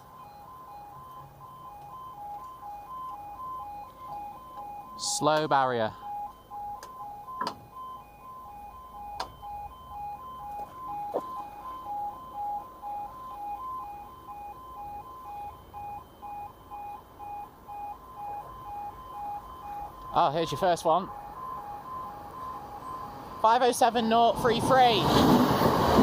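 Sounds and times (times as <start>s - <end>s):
two-tone electronic warning alarm: 0.0s - 25.0s.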